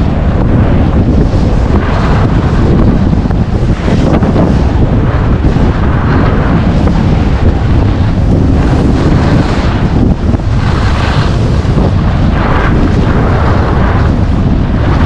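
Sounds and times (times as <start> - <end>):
skis carving on snow: 0.0 - 15.0
wind buffeting microphone: 0.0 - 15.0.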